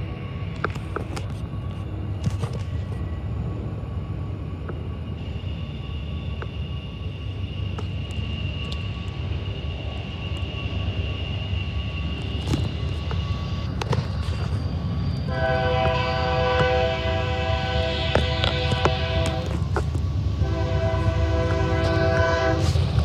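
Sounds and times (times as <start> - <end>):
clicks of train wheels: 0.0 - 3.1, 6.2 - 6.7, 7.3 - 9.6, 10.2 - 23.0
freight train rumbling on rails: 0.0 - 23.0
high wheel squeal: 0.0 - 23.0.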